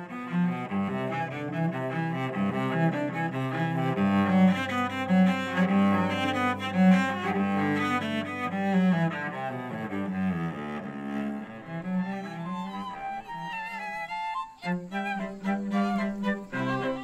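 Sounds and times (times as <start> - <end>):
bowed cello notes: 0.0 - 17.0.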